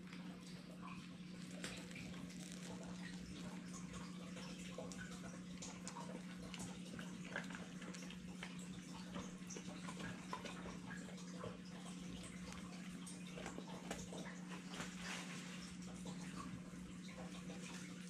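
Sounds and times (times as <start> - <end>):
dog chewing wetly: 0.5 - 18.0.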